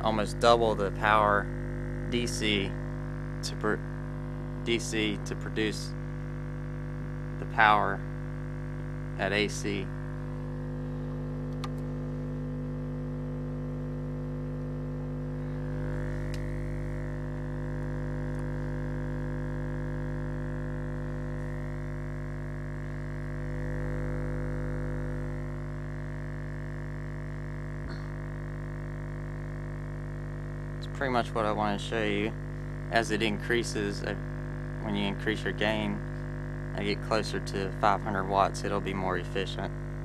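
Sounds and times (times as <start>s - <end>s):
subwoofer low test tone hum: 0.0s - 40.0s.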